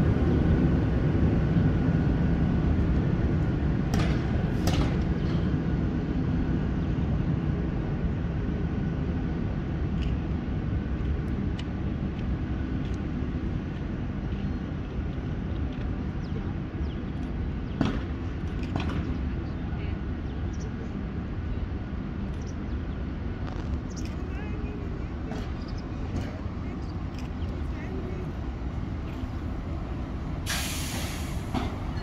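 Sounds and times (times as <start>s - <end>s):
electric locomotive rumbling: 0.0s - 32.0s.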